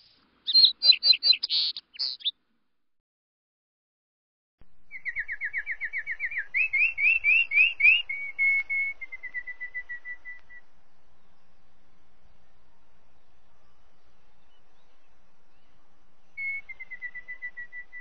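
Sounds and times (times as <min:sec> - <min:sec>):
bird singing: 0:00.0 - 0:02.4, 0:04.8 - 0:18.0.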